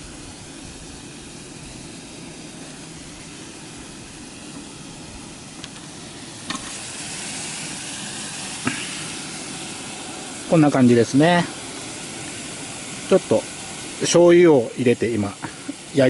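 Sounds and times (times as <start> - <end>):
vegetables sizzling in a skillet: 0.0 - 16.0.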